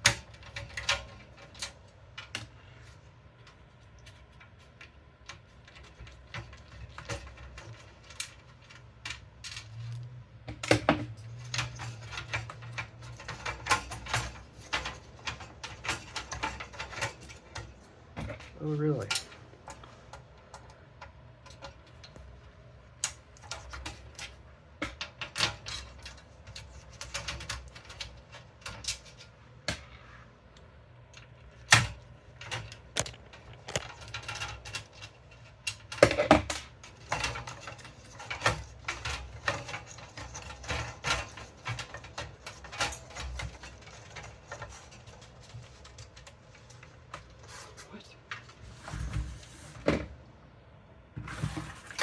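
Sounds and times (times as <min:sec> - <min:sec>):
computer parts clicking and clattering: 0:00.0 - 0:29.9, 0:31.0 - 0:48.6.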